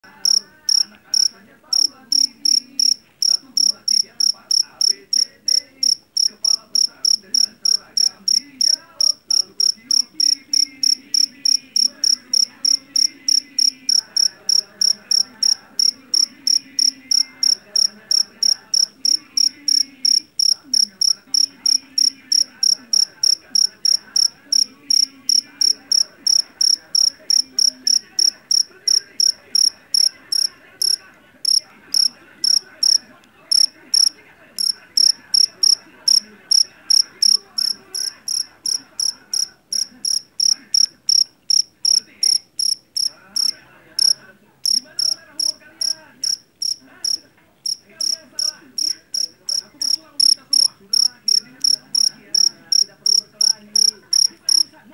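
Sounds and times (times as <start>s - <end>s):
field cricket chirping: 0.0s - 54.8s.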